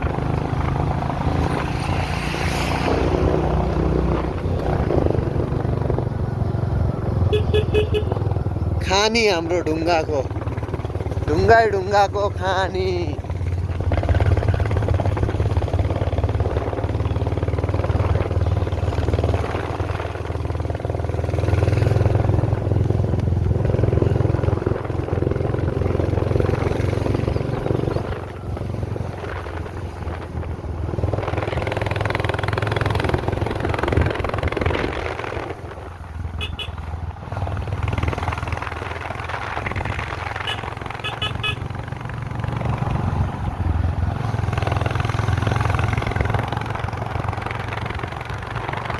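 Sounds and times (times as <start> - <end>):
wind rushing over microphone: 0.0 - 48.9.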